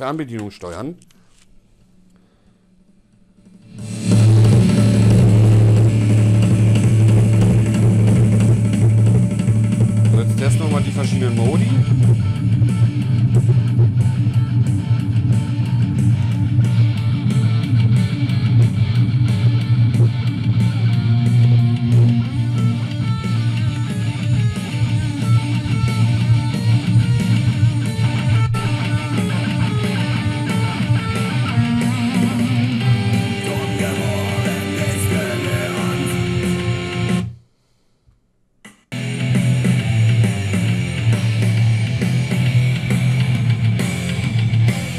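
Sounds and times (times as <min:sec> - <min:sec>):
loud guitar music with heavy bass: 0:03.5 - 0:37.3, 0:38.9 - 0:44.9.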